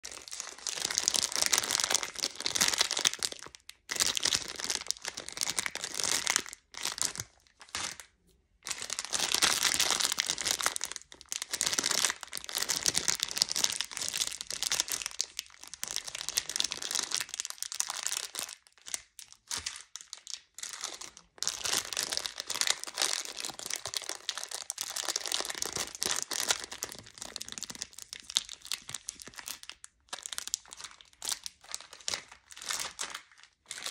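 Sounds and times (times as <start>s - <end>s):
plastic bags crinkling: 0.0s - 33.9s.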